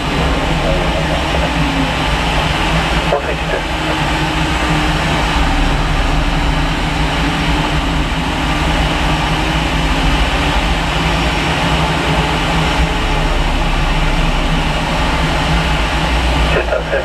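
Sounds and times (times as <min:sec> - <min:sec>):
jet airliner rumble: 0:00.0 - 0:17.0.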